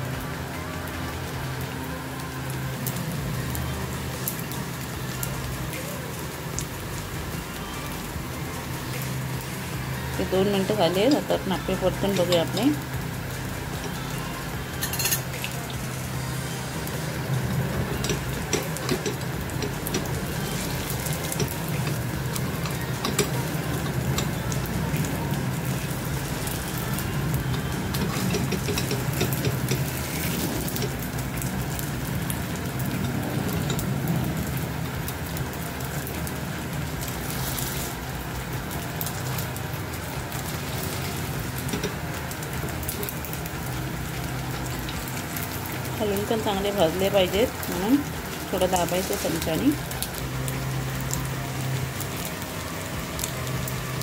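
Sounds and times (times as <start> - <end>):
low hum: 0.0 - 46.9
batter frying in oil: 0.0 - 54.0.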